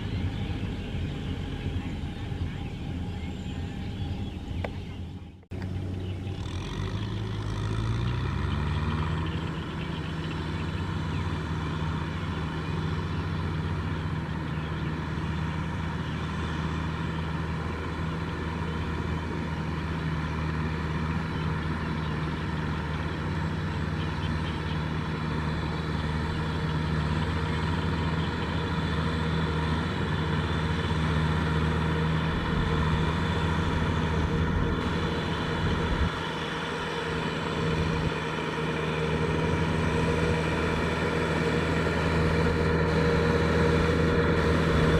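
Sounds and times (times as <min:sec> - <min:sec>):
tractor diesel engine: 0:00.0 - 0:44.9.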